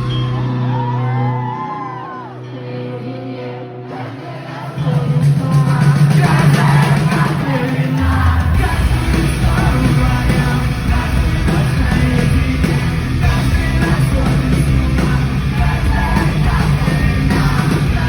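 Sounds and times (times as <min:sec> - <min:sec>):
heavy bass line: 0:00.0 - 0:01.6, 0:05.0 - 0:18.0
person singing: 0:00.0 - 0:18.0
rock band playing live: 0:00.0 - 0:18.0.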